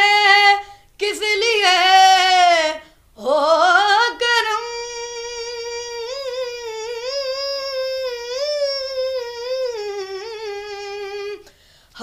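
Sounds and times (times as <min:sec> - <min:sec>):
boy singing unaccompanied: 0:00.0 - 0:11.5.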